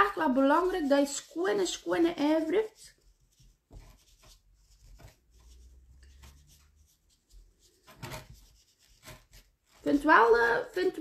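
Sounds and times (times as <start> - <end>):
sponge rubbing ceramic: 0.0 - 11.0.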